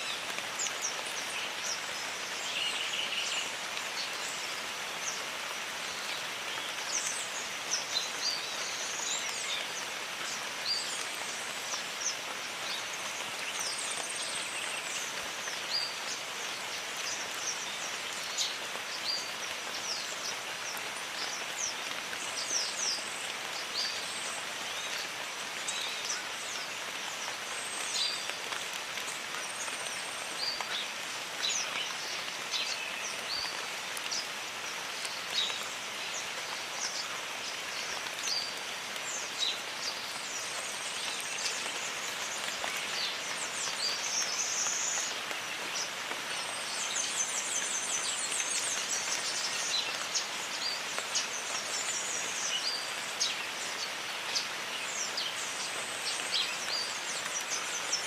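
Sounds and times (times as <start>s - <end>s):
rain on foliage: 0.0s - 58.0s.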